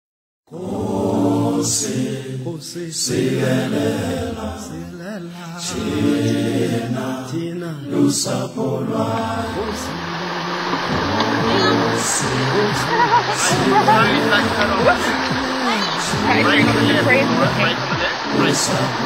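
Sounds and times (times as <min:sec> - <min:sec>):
a cappella group singing: 0:00.5 - 0:19.0.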